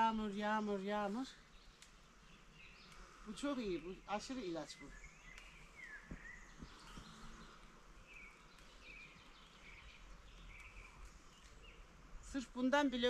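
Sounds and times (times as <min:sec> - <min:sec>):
small bird calling: 0:00.0 - 0:12.5.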